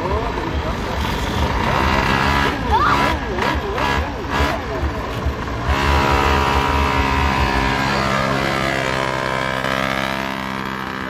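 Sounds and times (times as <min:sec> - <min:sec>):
motor vehicle engine running: 0:00.0 - 0:11.0.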